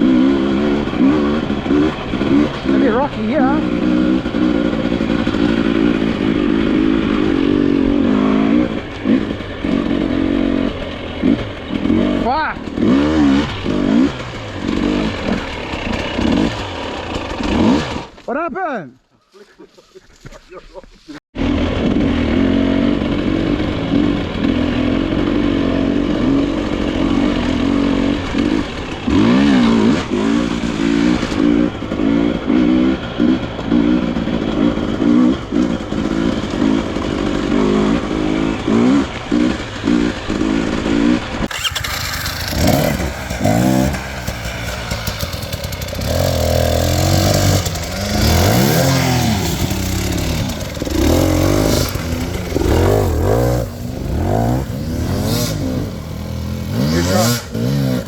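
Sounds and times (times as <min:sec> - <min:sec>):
dirt bike engine revving: 0:00.0 - 0:18.2, 0:21.4 - 0:58.0.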